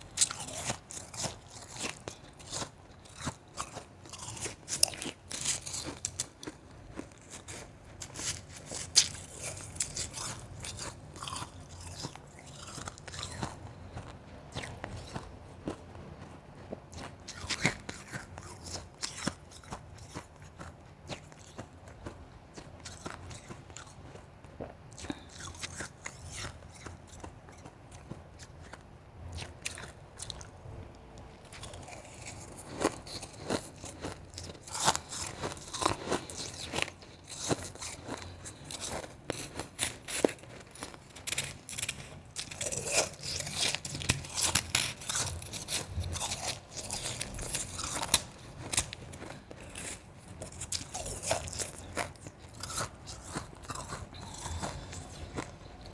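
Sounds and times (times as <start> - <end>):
chewing crunchy ice: 0.0 - 55.9.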